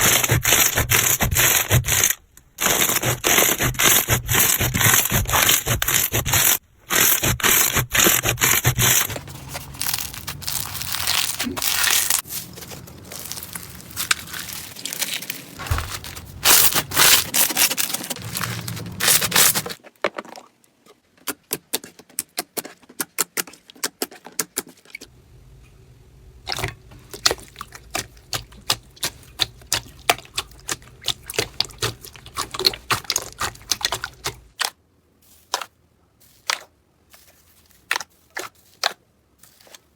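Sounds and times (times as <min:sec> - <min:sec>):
slime crackling and scraping: 0:00.0 - 0:19.8, 0:26.5 - 0:39.9.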